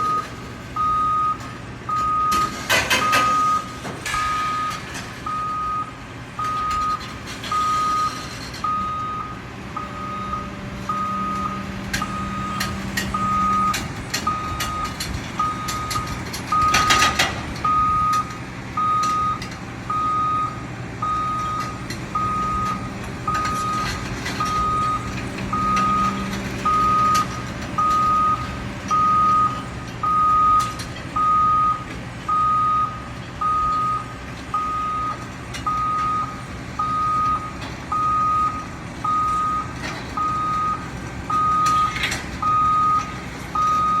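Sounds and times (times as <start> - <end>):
truck engine running: 0.0 - 44.0
truck reversing alarm beeping: 0.0 - 44.0.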